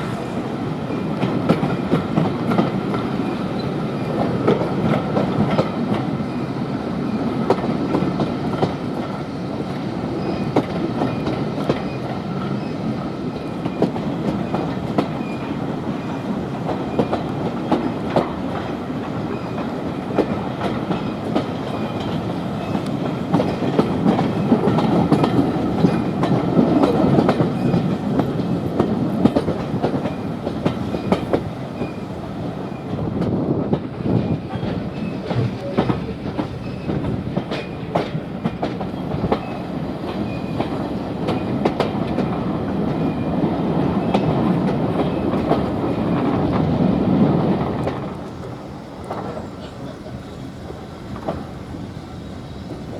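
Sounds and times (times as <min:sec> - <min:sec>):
train rumble: 0:00.0 - 0:52.9
train wheels clicking on rails: 0:00.0 - 0:52.9.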